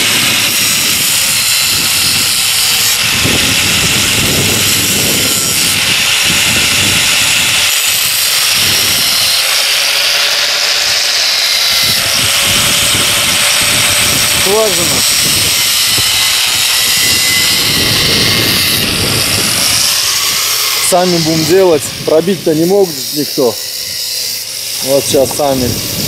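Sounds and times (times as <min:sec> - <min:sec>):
angle grinder grinding steel: 0:00.0 - 0:26.0.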